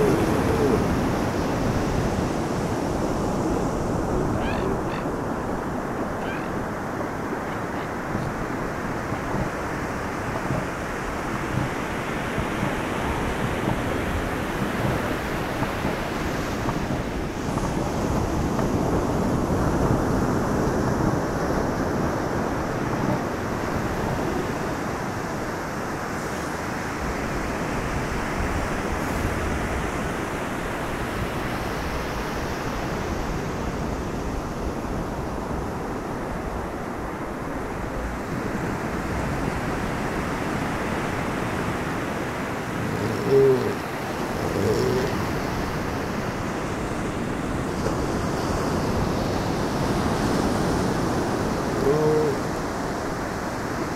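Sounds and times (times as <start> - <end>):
surf washing onto beach: 0.0 - 53.9
wind rumbling on microphone: 0.0 - 53.9.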